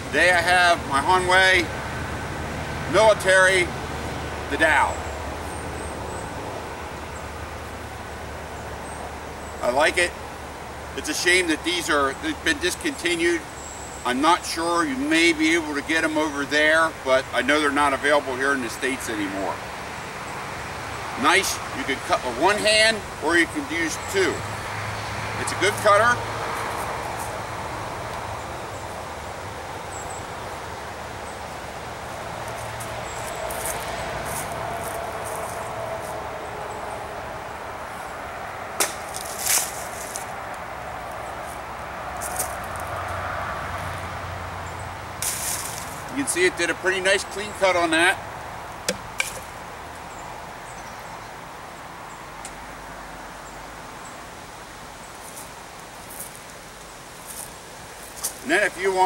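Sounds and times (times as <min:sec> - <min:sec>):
leaves rustling: 0:00.0 - 0:59.0.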